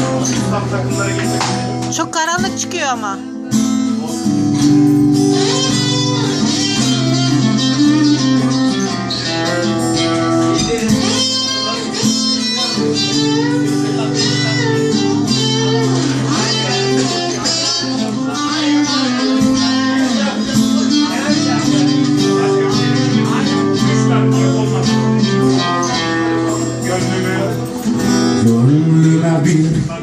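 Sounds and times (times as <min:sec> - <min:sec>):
melodic guitar lines: 0:00.0 - 0:30.0.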